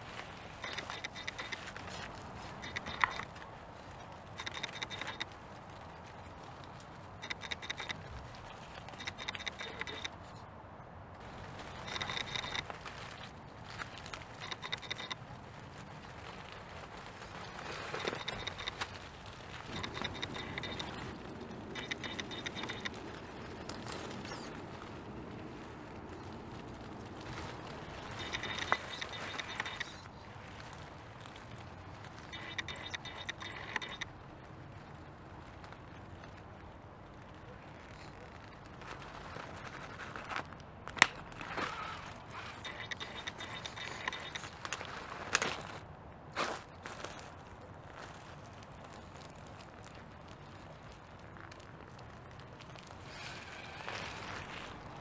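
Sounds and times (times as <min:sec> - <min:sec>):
leaves and twigs crackling: 0:00.0 - 0:55.0.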